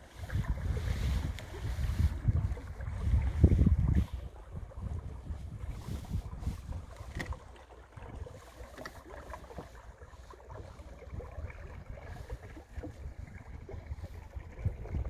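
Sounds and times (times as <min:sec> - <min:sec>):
water lapping against boat hull: 0:00.0 - 0:15.0
wind rumble on microphone: 0:00.0 - 0:15.0.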